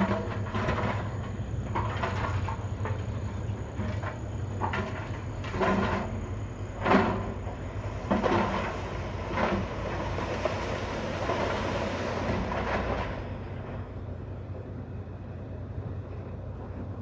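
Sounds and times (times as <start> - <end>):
steel tracks clanking: 0.0 - 14.1
diesel engine running under load: 0.0 - 17.0.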